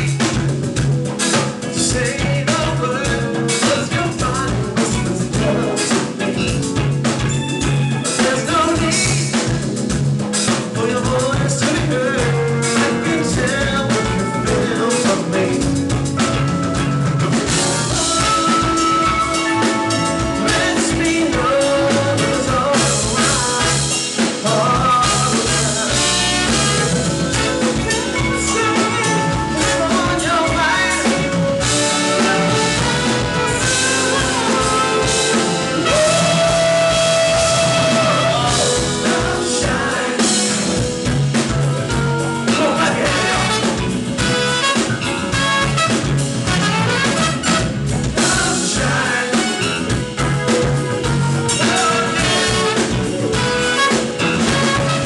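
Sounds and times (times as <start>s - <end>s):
band music with singing: 0.0s - 55.0s.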